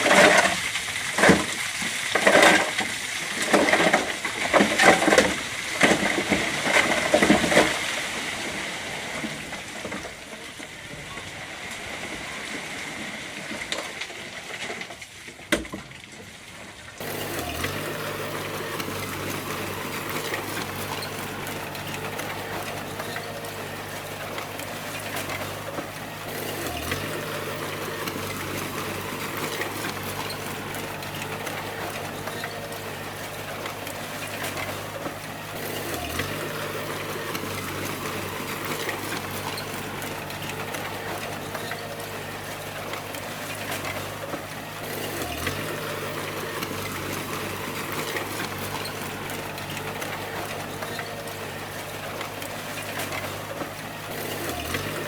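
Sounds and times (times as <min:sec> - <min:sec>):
bulldozer engine under load: 0:00.0 - 0:15.3, 0:16.8 - 0:55.0.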